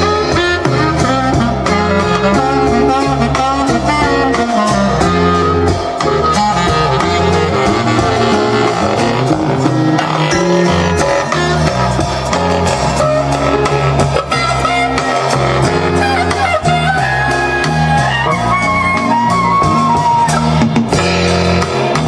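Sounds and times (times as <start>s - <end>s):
bass line: 0.0s - 22.0s
guitar music: 0.0s - 22.0s.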